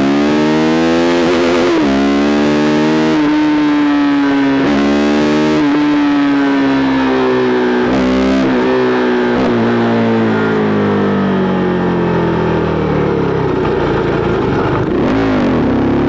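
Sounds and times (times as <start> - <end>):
motorcycle engine high revs: 0.0 - 10.7, 13.5 - 16.0.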